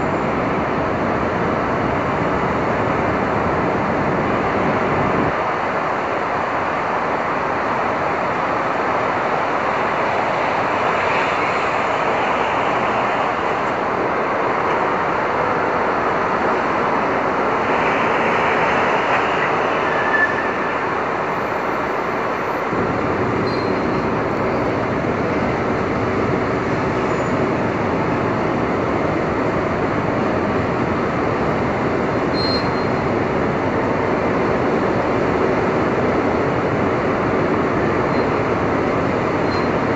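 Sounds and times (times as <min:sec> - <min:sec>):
city traffic: 0:00.0 - 0:39.9
rain: 0:00.0 - 0:39.9
wind: 0:00.0 - 0:39.9.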